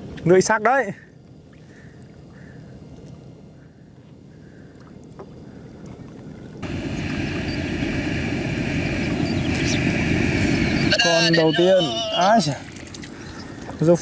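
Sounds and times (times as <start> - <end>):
faint hum: 0.0 - 14.0
steady outdoor rumble: 0.0 - 14.0.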